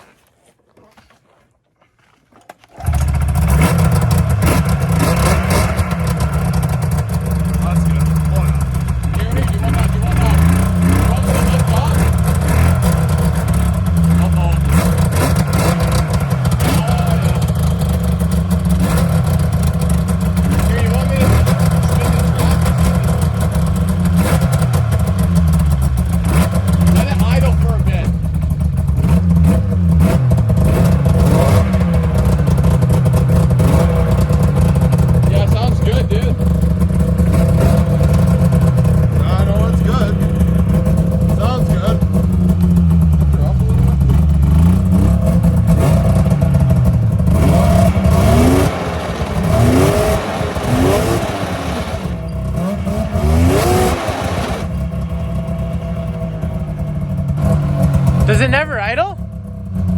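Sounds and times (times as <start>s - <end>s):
snowmobile engine idling: 2.7s - 59.9s.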